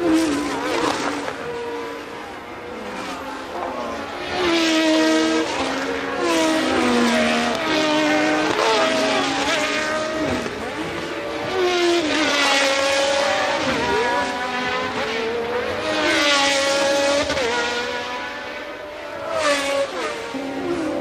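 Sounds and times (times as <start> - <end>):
racing cars passing at speed: 0.0 - 21.0.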